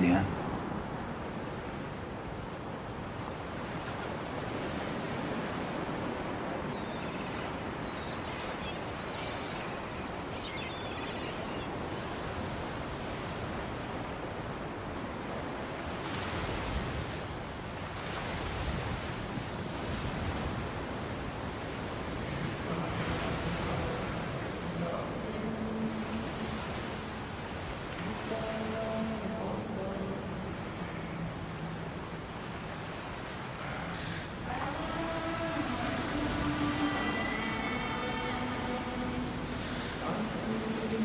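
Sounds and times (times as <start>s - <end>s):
ocean surf on beach: 0.0s - 41.0s
waves breaking: 0.0s - 41.0s.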